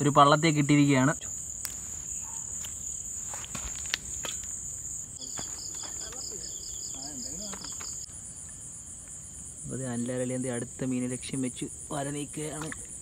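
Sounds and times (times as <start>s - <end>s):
insects chirring: 0.0s - 13.0s
pulsing insect trill: 0.0s - 13.0s.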